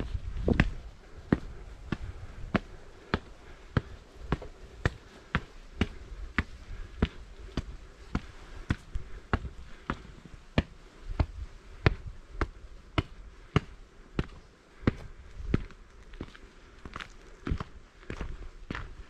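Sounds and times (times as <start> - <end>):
footsteps on hard ground: 0.0 - 19.0.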